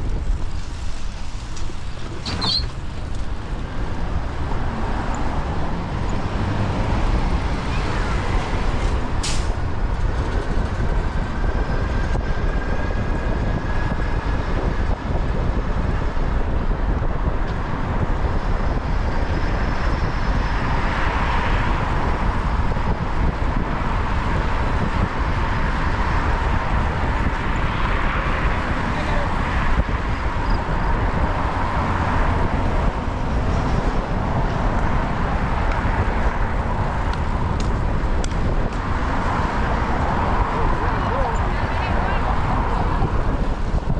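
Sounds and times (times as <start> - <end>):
city street traffic: 0.0 - 43.9
wind rumble on microphone: 0.0 - 43.9.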